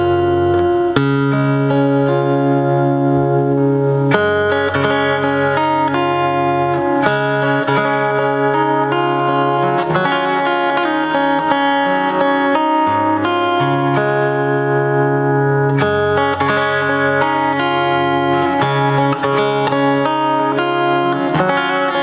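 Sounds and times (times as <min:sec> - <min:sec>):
fingerstyle acoustic guitar: 0:00.0 - 0:22.0.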